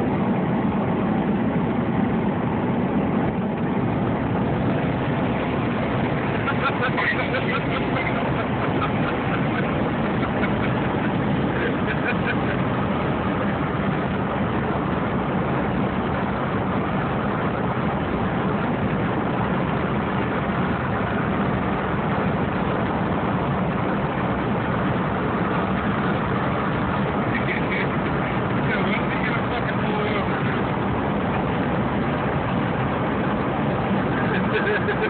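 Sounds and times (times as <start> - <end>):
car cabin road and engine noise: 0.0 - 35.0.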